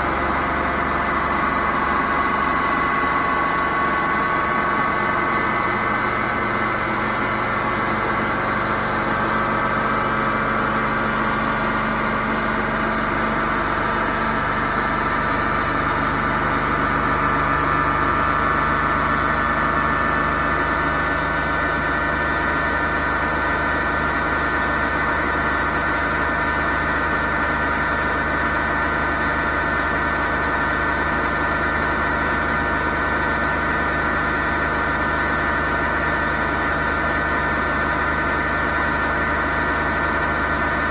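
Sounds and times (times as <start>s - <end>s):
washing machine spin cycle: 0.0s - 40.9s.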